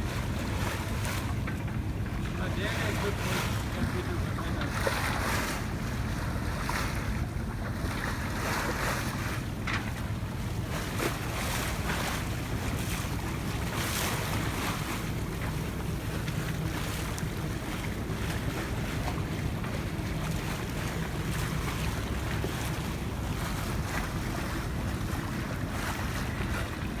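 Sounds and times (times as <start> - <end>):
water splashing past hull: 0.0 - 27.0.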